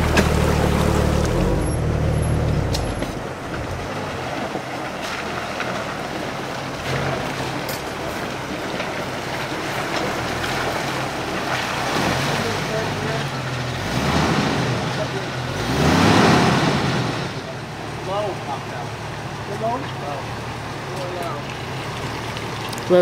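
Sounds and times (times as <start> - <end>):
car engine droning: 0.0 - 23.0
water splashes: 0.0 - 23.0
creek rushing over rocks: 2.6 - 23.0.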